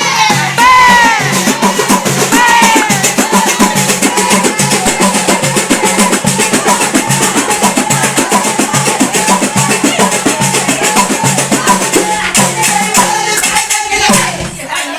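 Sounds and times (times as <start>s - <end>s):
drum percussion: 0.0s - 14.9s.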